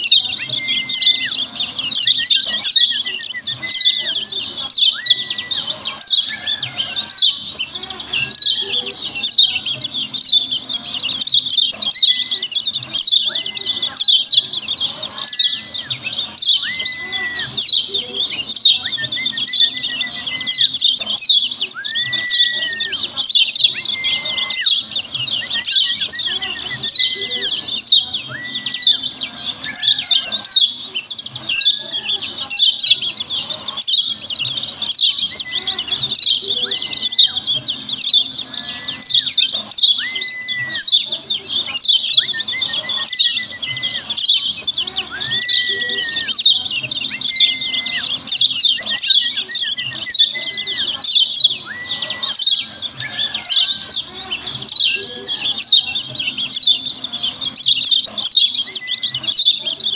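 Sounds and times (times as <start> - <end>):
bird chattering calls: 0.0 - 59.9.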